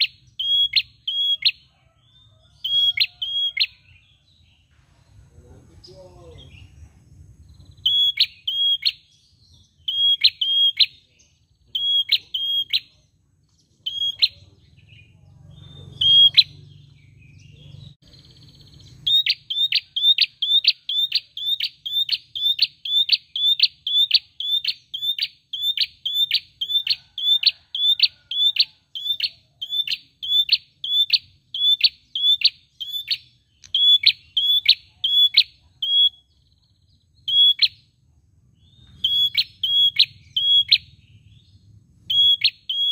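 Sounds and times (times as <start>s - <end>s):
bird calling with high notes: 0.0s - 4.2s, 7.5s - 13.1s, 13.7s - 38.0s, 38.6s - 42.9s.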